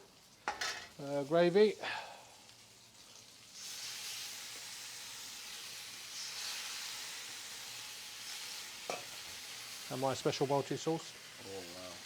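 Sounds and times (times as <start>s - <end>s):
curry sizzling in a hot pan: 0.0s - 12.0s.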